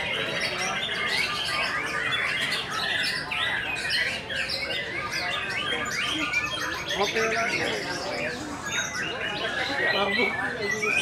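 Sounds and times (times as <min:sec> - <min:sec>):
caged songbirds singing: 0:00.0 - 0:11.0.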